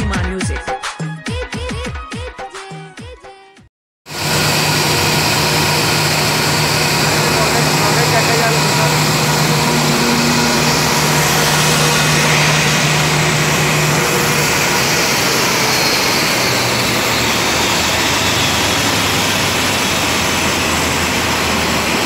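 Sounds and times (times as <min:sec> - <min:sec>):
jet engine rushing hiss: 0:04.1 - 0:22.0
low hum: 0:04.1 - 0:22.0.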